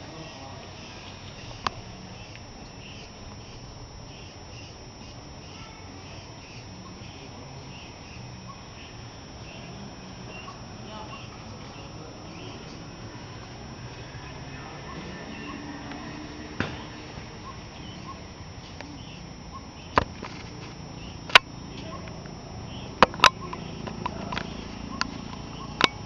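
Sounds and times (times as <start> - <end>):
faint background murmur: 0.0 - 26.0.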